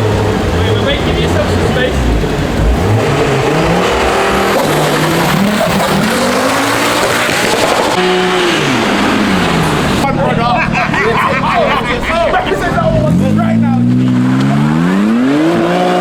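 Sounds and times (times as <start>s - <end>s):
car engine revving: 0.0s - 16.0s
tyres squealing: 0.0s - 16.0s.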